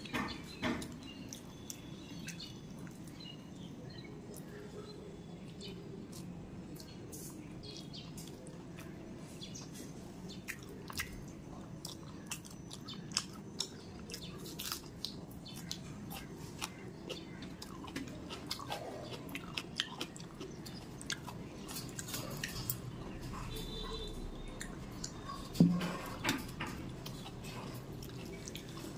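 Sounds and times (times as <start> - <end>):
chewing rice: 0.0 - 28.9.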